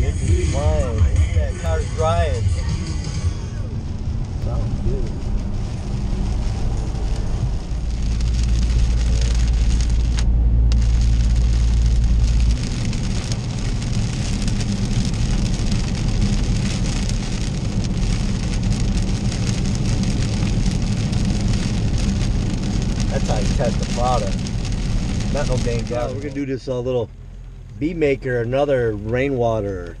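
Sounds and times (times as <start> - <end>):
deep rumble: 0.0 - 30.0
rain spattering on windshield: 0.0 - 30.0
tyre and road noise: 0.0 - 30.0.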